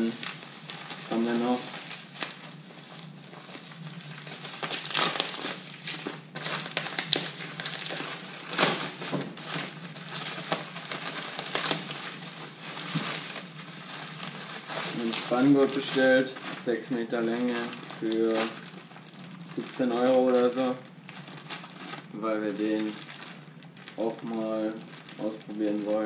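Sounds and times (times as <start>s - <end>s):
plastic bags crinkling and rustling: 0.0s - 26.0s.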